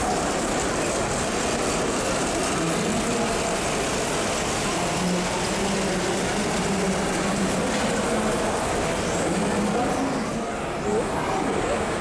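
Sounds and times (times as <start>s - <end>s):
exhibition hall background noise: 0.0s - 12.0s
model trains running on track: 0.0s - 12.0s.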